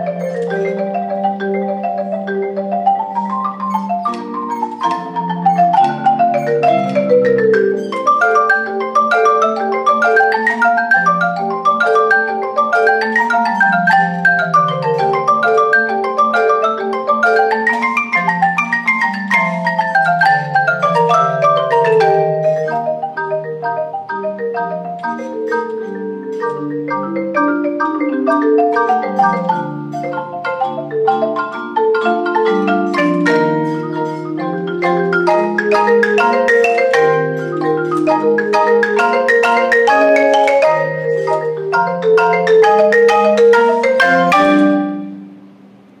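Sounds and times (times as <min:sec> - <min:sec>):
marimbas playing fast patterns: 0:00.0 - 0:46.0.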